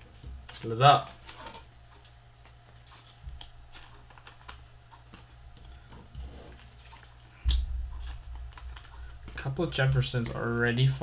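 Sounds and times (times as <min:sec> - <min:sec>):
cards clicking and tapping: 0:00.2 - 0:11.0.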